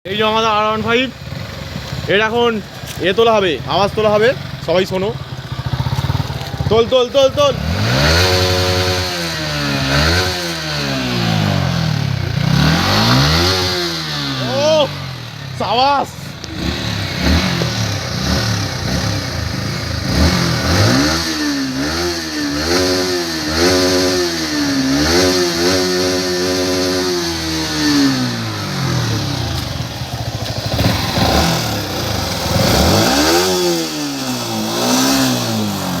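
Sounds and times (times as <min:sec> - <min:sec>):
motorcycle engine revving: 0:00.1 - 0:36.0.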